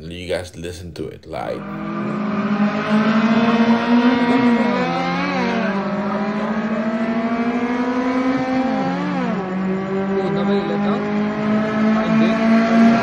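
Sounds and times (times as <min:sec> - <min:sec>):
car engine revving through gears: 0:01.4 - 0:13.0.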